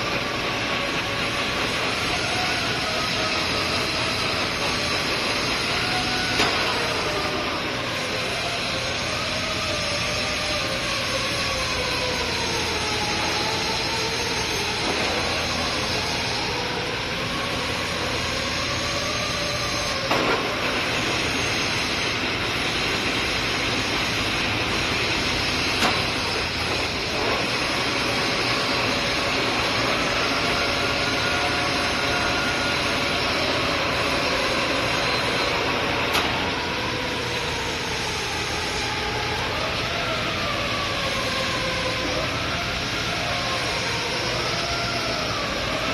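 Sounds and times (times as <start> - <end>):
lathe running: 0.0 - 45.9.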